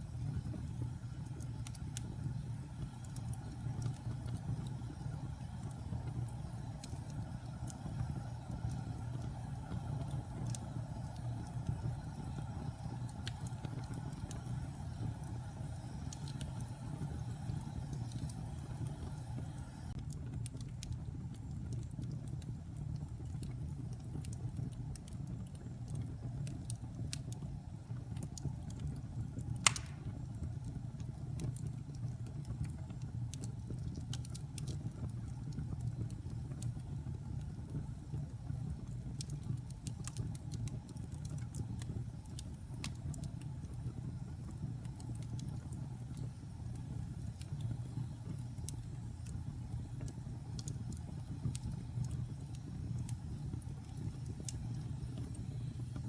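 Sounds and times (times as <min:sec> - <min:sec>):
fire burning in a fireplace: 0:00.0 - 0:56.0
fire popping: 0:00.0 - 0:56.0.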